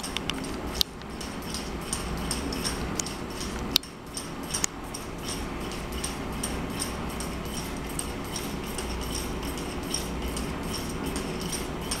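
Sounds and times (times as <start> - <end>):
drawing machine whirring: 0.0 - 12.0
pens ticking on paper: 0.0 - 12.0.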